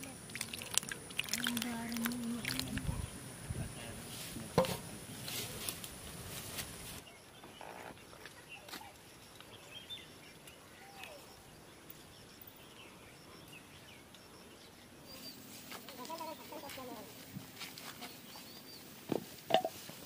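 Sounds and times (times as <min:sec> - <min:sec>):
faint outdoor ambience: 0:00.0 - 0:20.0.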